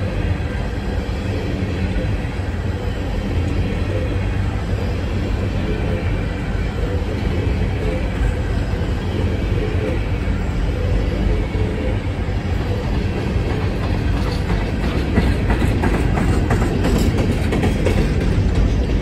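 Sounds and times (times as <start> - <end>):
train cars rolling on track: 0.0 - 19.0.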